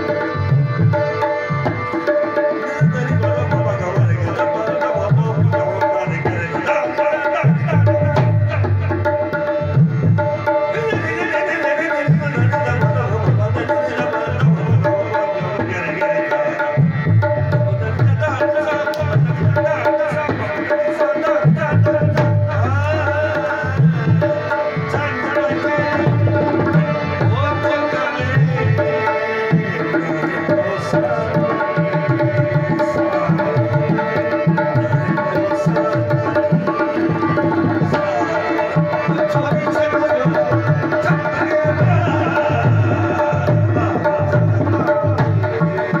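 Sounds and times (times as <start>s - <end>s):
drum beating steady rhythm: 0.0s - 46.0s
harmonium: 0.0s - 46.0s
man singing: 0.0s - 46.0s.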